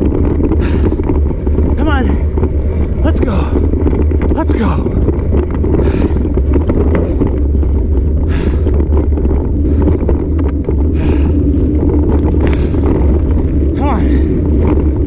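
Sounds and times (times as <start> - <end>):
bicycle rolling over dirt: 0.0 - 15.0
bike clicks and knocks: 0.0 - 15.0
wind buffeting microphone: 0.0 - 15.0.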